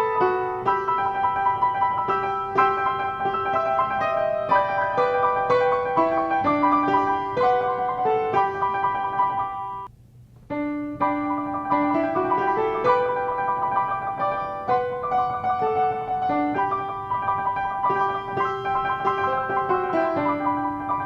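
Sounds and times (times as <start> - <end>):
piano melody: 0.0 - 9.9, 10.5 - 21.0.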